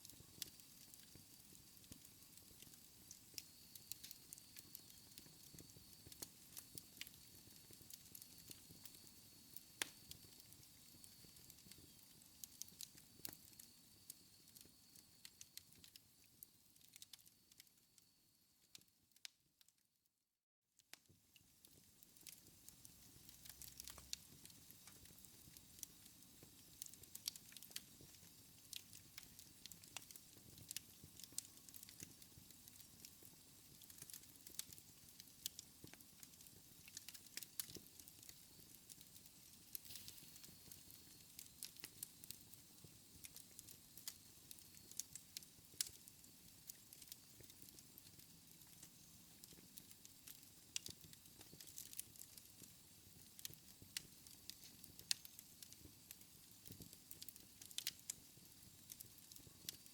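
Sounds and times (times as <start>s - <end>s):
wood fire crackling: 0.0s - 18.1s, 21.6s - 59.9s.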